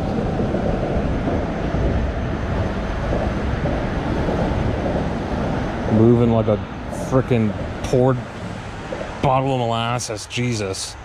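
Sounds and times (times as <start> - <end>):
traffic rumble on bridge: 0.0 - 11.0.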